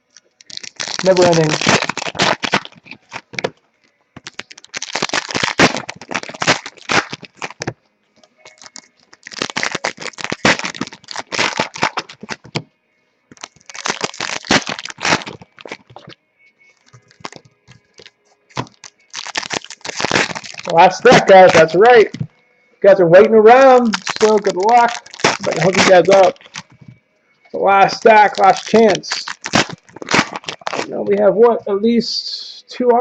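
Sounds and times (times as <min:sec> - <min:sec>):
foil wrappers crinkling: 0:00.0 - 0:03.6, 0:04.2 - 0:12.7, 0:13.3 - 0:16.2, 0:16.8 - 0:22.3, 0:23.5 - 0:27.0, 0:27.6 - 0:31.2.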